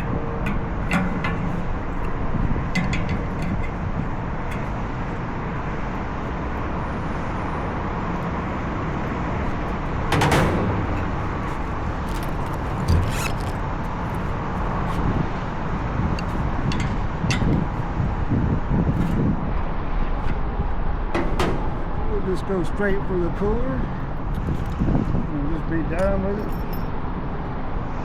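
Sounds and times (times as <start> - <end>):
hvac equipment running: 0.0 - 25.4.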